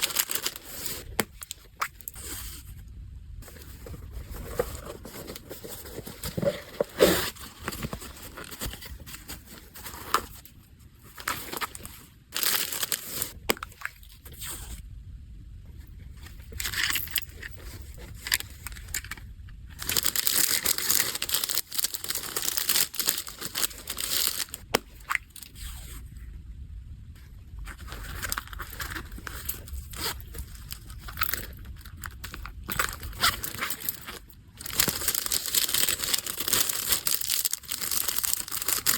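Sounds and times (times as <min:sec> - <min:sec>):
wrapping crinkling and tearing: 0:00.0 - 0:02.7, 0:03.4 - 0:14.7, 0:16.3 - 0:26.0, 0:27.7 - 0:38.9.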